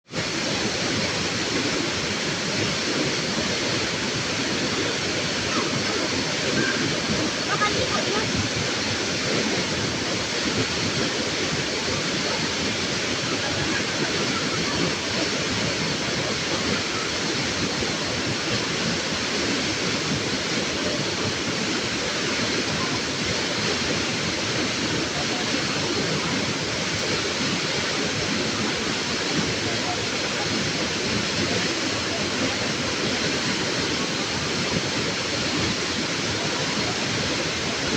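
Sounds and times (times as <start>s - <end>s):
rushing water: 0.0s - 37.9s.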